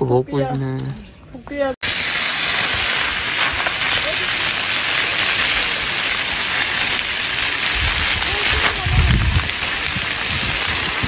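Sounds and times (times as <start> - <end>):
fountain water splashing: 1.8 - 11.0.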